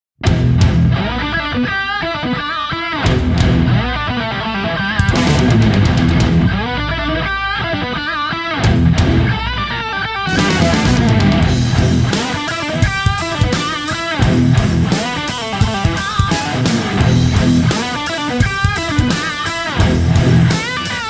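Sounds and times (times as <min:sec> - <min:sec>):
rock music with electric guitar: 0:00.2 - 0:21.0.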